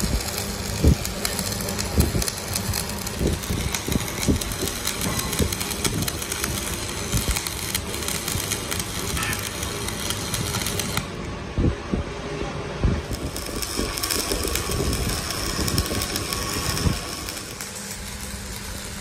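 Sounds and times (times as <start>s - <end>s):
machine noise: 0.0s - 19.0s.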